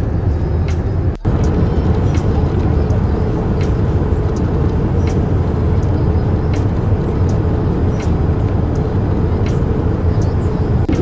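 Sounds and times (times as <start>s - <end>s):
faint hum: 0.0s - 11.0s
jet engine cabin rumble: 0.0s - 11.0s.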